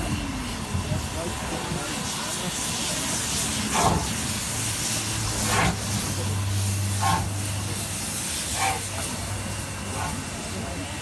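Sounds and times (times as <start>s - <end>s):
steam hiss: 0.0s - 11.0s
steam locomotive chuffing: 0.0s - 11.0s.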